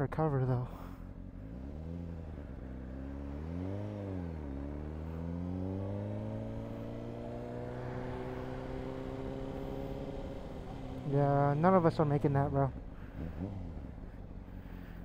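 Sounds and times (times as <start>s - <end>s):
motorcycle engine accelerating: 0.9s - 15.0s.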